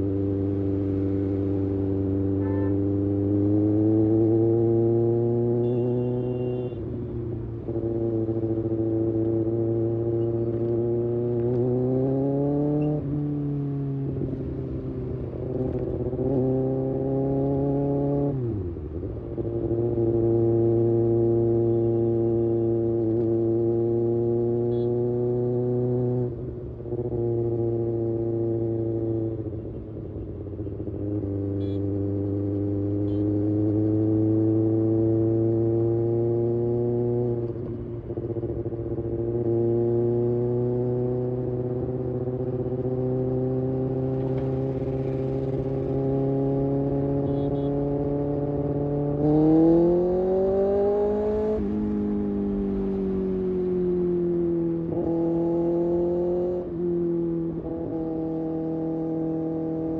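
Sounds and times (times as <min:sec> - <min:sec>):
motorcycle engine revving: 0:00.0 - 0:06.7, 0:07.4 - 0:29.8, 0:30.6 - 0:59.9.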